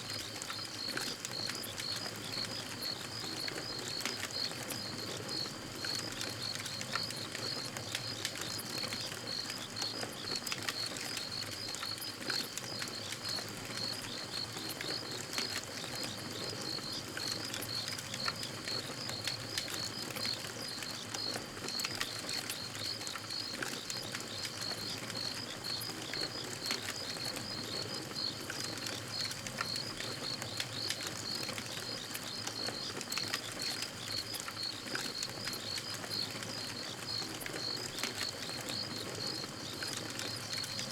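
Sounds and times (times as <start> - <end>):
campfire crackling: 0.1 - 40.9
crickets chirping: 0.1 - 40.9.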